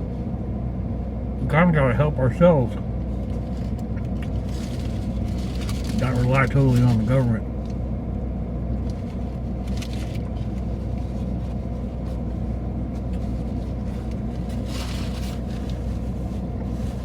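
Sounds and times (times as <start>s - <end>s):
low rumble of vehicles: 0.0s - 17.0s.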